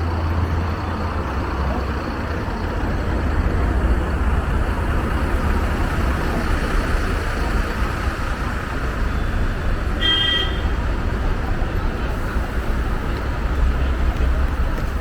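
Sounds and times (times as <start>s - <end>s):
cars and buses passing: 0.0s - 15.0s
deep traffic rumble: 0.0s - 15.0s.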